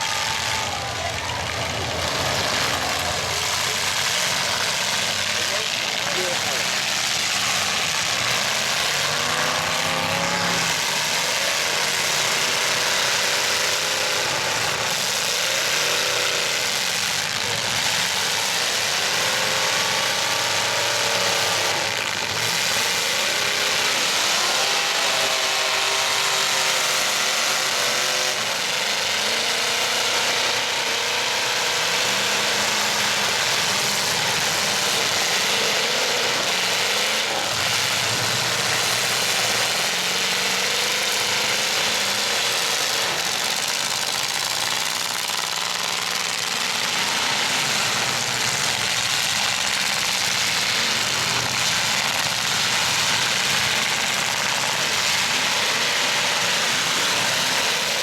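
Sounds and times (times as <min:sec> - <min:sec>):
pickup truck engines revving: 0:00.0 - 0:58.0.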